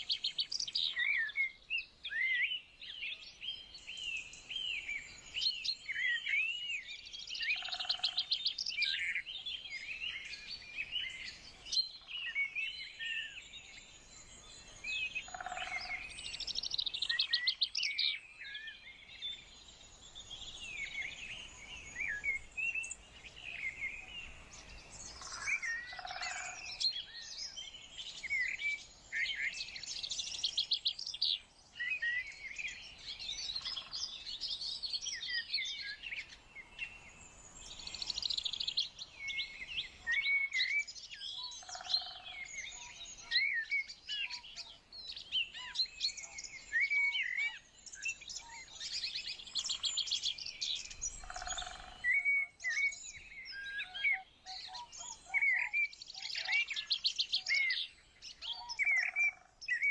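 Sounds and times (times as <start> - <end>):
songbirds chirping and warbling: 0.0 - 59.9.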